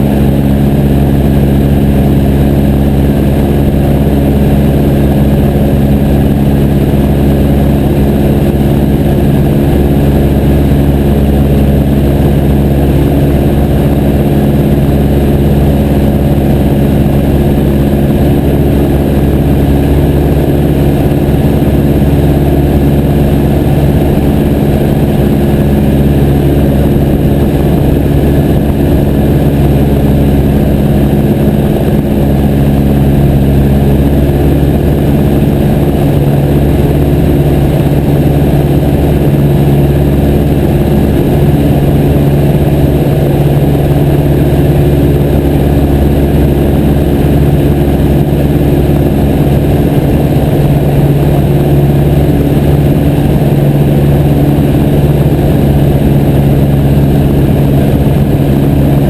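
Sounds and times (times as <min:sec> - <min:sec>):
small plane engine and propeller: 0:00.0 - 0:59.0.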